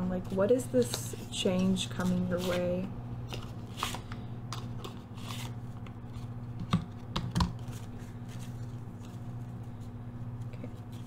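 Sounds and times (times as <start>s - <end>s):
steady low hum: 0.0s - 11.0s
cards tapping and scraping: 0.3s - 9.2s.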